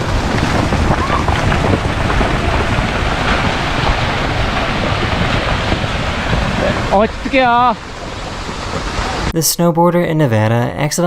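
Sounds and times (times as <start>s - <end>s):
loud rushing and rumbling noise: 0.0s - 9.4s.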